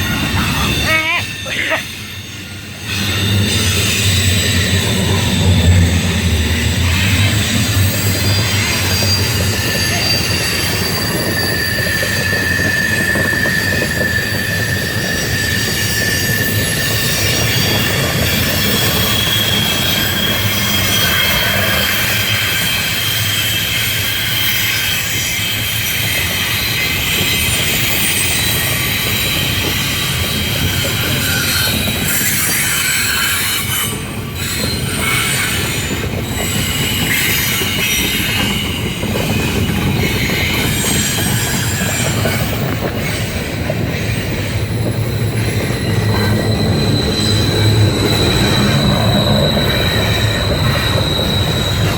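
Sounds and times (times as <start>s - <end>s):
freight train rumbling on rails: 0.0s - 51.9s
train wheels squealing: 0.0s - 51.9s.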